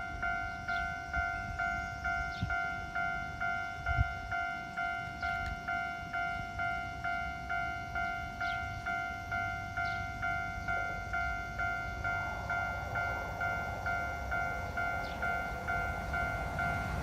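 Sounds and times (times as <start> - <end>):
railroad crossing bell ringing: 0.0 - 17.0.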